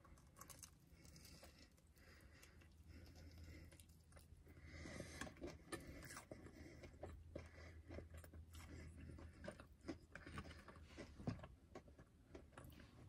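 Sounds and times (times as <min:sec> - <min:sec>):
chewing with mouth clicks: 0:00.0 - 0:13.0
faint low hum: 0:00.0 - 0:13.0
food crunching: 0:00.0 - 0:13.0.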